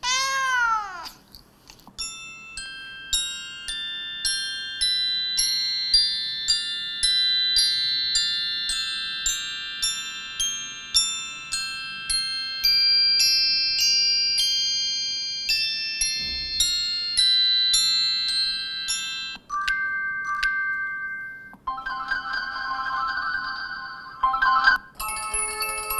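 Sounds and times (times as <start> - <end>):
bell-like mallet ringtone: 2.0 - 25.9
chiming ringtone: 2.0 - 25.9.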